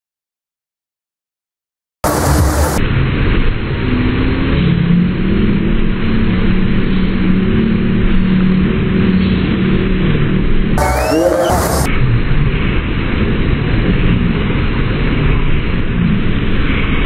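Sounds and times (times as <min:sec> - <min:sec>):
churning water roar: 0:02.0 - 0:17.0.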